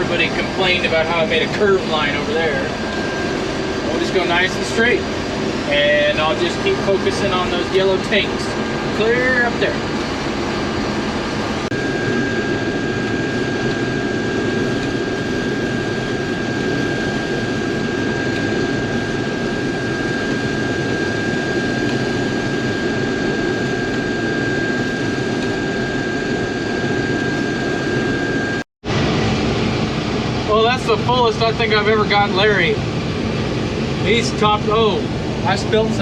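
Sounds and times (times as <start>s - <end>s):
combine harvester engine running: 0.0s - 36.0s
thin high whine: 0.0s - 36.0s.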